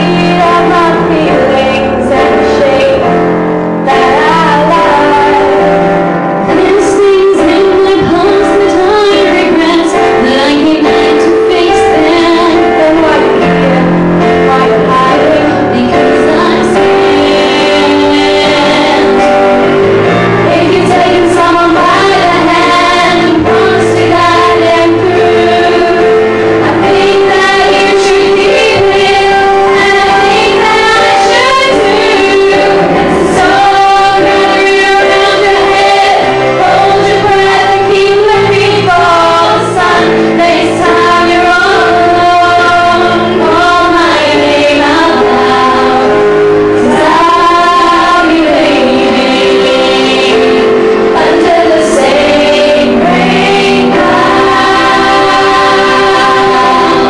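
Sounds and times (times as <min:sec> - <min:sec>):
musical accompaniment: 0:00.0 - 0:57.0
young women singing: 0:00.0 - 0:57.0.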